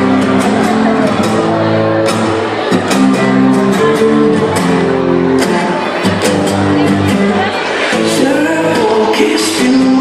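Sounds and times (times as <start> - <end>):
guitar playing chords: 0.0 - 10.0.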